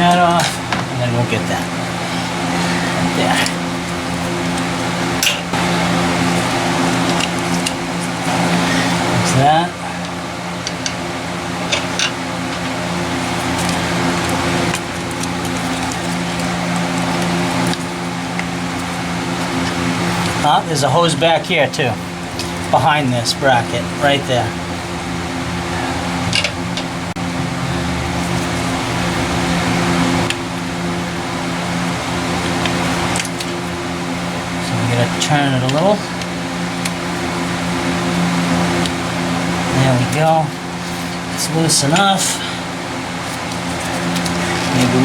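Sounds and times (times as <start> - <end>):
steady mechanical hum: 0.0 - 45.0.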